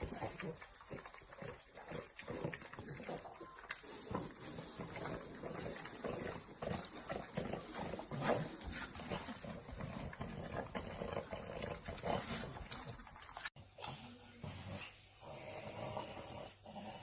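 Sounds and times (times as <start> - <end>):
puppy growling: 0.0 - 17.0.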